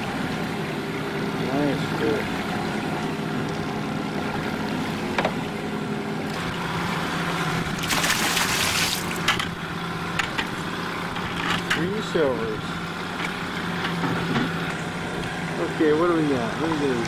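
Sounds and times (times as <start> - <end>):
boat engine running: 0.0 - 17.0
water sloshing against hull: 0.0 - 17.0.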